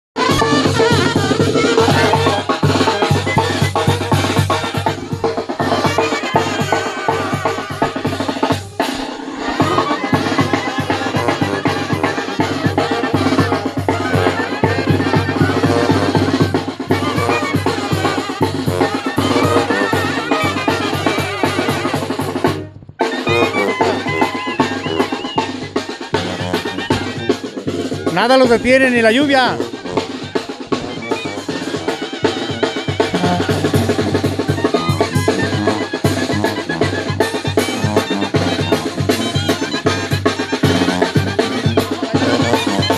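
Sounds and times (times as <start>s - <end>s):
bass drum and snare beat: 0.2s - 42.9s
brass band playing dance tune: 0.2s - 42.9s.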